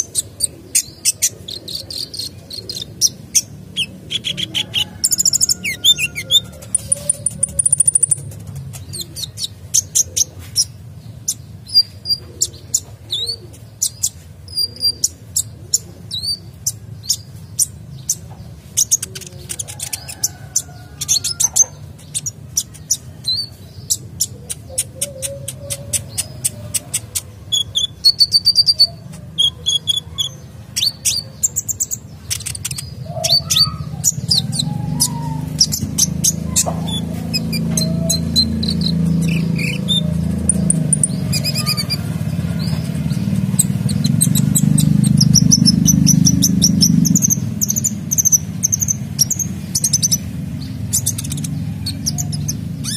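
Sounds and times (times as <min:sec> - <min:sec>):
bird singing high chirps and trills: 0:00.0 - 0:52.9.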